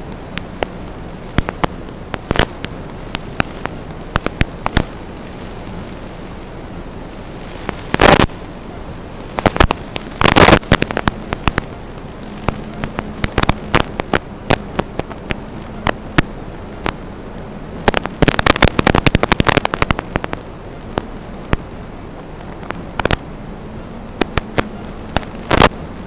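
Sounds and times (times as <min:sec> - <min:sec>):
crackling static clicks and pops: 0:00.0 - 0:26.0
faint hum: 0:00.0 - 0:26.0
steady hiss: 0:00.0 - 0:26.0.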